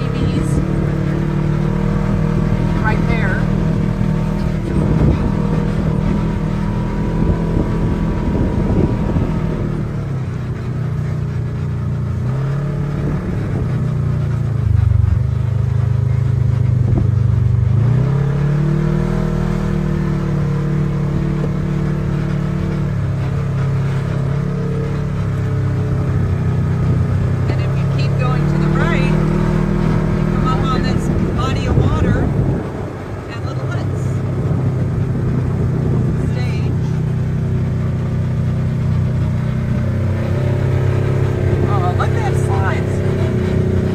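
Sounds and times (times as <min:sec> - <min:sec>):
utility vehicle engine running: 0:00.0 - 0:43.9.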